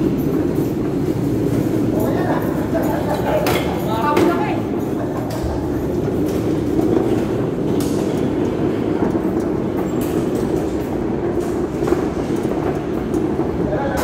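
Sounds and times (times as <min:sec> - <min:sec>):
small rattles and clatters: 0:00.0 - 0:14.0
trolley wheels rolling on concrete: 0:00.0 - 0:14.0.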